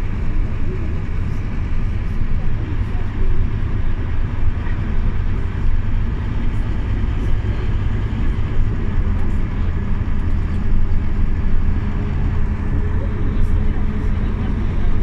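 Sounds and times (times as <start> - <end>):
bus engine drone inside cabin: 0.0 - 15.0.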